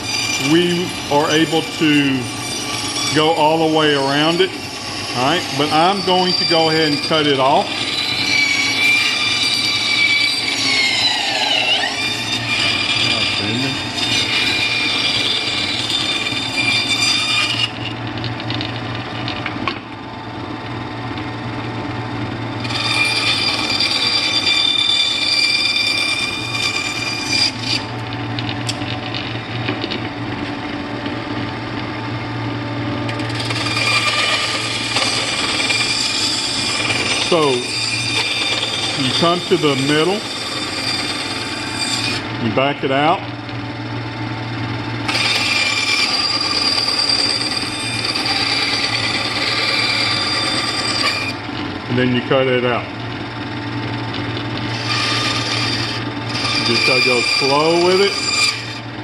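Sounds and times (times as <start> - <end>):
bandsaw blade cutting whine: 0.0 - 59.0
bandsaw motor hum: 0.0 - 59.0.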